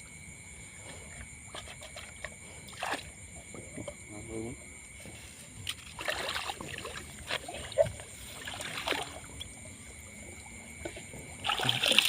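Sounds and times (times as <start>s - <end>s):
water splashing and sloshing: 0.6s - 4.1s, 4.9s - 12.0s.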